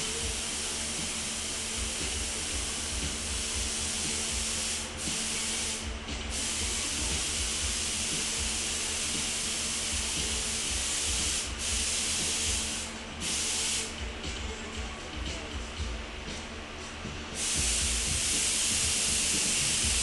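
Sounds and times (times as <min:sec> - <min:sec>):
paint spray gun hissing: 0:00.0 - 0:14.0, 0:17.3 - 0:20.0.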